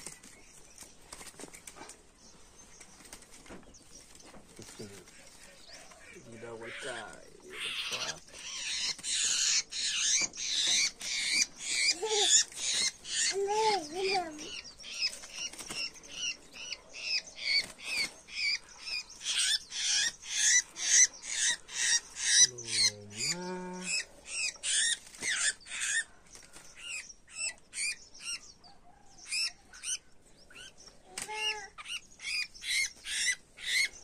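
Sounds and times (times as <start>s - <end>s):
bird squawking distress calls: 5.0s - 28.4s, 29.2s - 34.0s.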